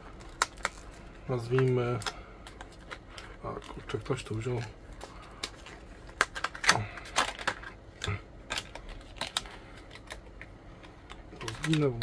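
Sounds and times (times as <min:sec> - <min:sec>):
plastic blister pack crackling: 0:00.0 - 0:12.0.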